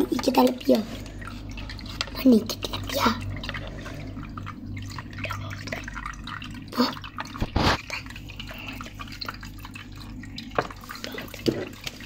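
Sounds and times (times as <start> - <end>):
water dripping and trickling: 0.0 - 12.0.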